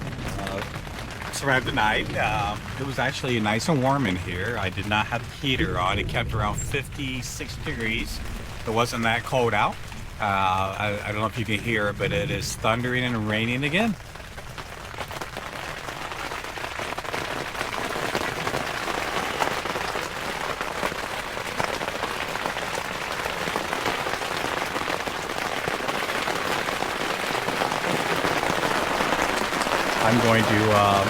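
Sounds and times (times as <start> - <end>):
rain pattering on tent fabric: 0.0 - 31.0.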